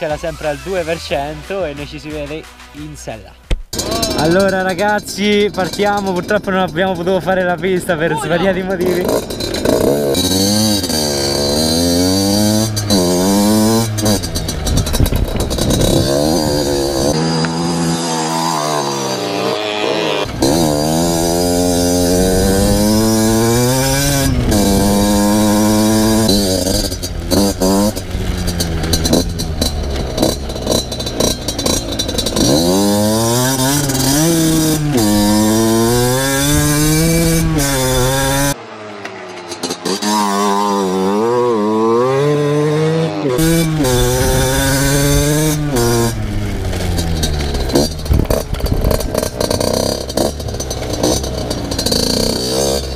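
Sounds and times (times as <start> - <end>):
motocross bike engine revving: 3.7 - 52.9.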